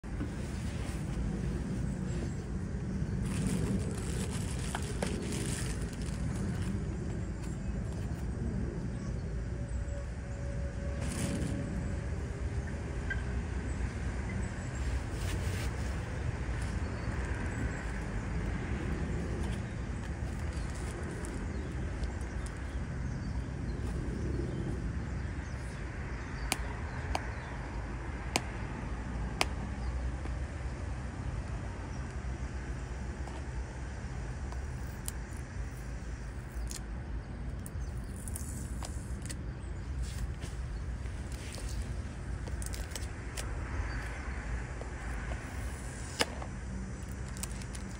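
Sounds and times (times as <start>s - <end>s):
low outdoor rumble: 0.0s - 47.9s.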